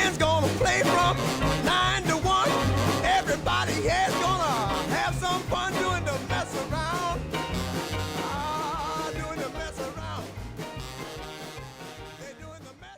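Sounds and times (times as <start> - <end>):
boogie-woogie rhythm and blues music: 0.0 - 12.9.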